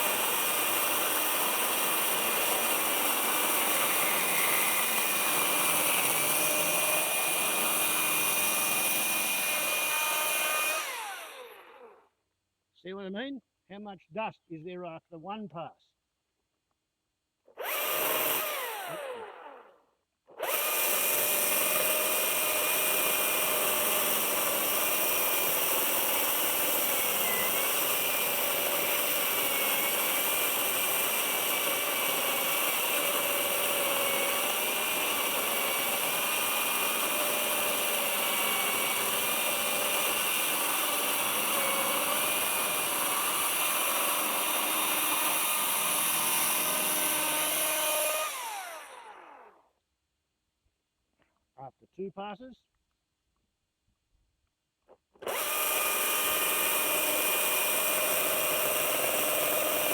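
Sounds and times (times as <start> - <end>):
battery chainsaw whining: 0.0 - 12.1, 17.5 - 49.6, 55.1 - 59.9.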